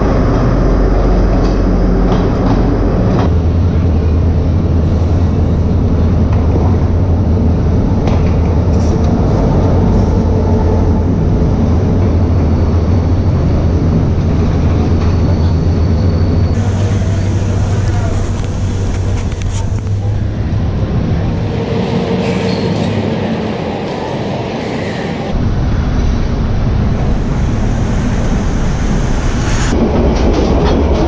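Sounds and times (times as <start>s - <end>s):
diesel locomotive passing slowly: 0.0s - 31.0s.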